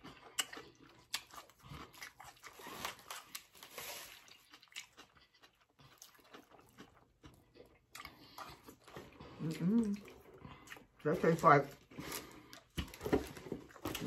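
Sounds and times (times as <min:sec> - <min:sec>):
people chewing food: 0:00.0 - 0:14.0.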